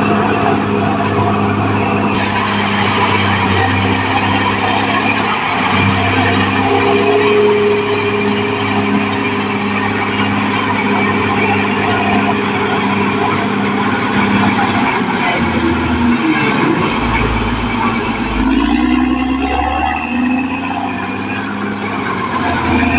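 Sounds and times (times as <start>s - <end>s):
bulldozer diesel engine running: 0.0s - 22.9s
clatter and hiss of tracks: 0.0s - 22.9s.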